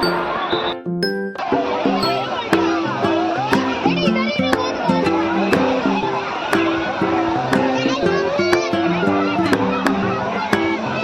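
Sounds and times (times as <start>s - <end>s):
simple melody of held notes: 0.0s - 11.0s.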